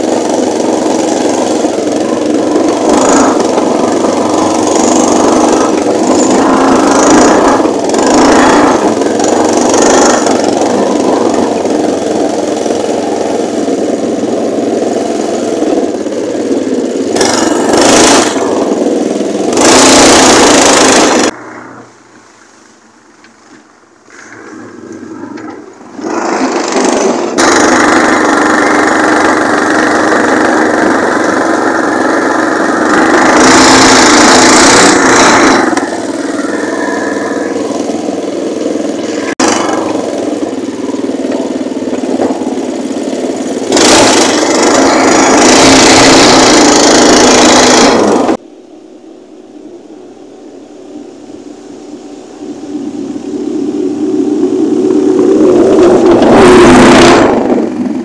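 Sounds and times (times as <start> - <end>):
small engine running under load: 0.0 - 21.9, 24.4 - 48.4, 49.6 - 58.0.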